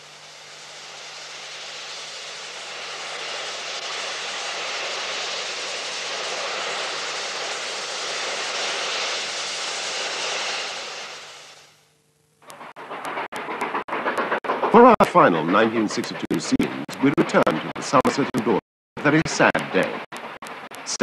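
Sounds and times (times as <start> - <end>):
steam locomotive hissing: 0.0 - 11.8, 12.5 - 21.0.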